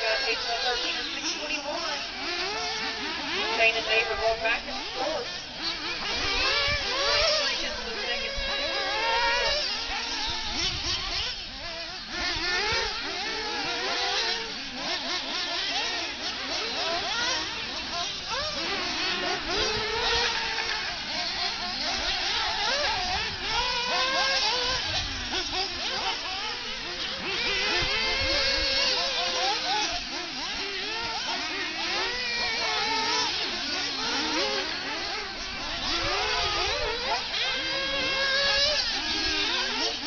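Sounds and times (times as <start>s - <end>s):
rc car motors whining: 0.0s - 40.0s.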